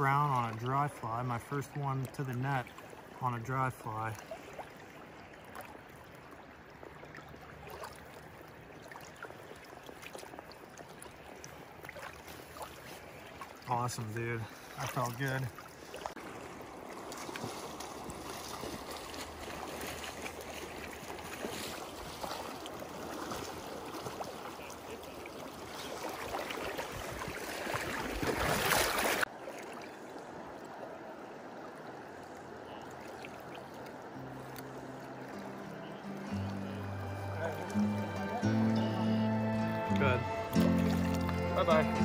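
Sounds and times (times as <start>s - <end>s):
creek water rushing: 0.0s - 42.0s.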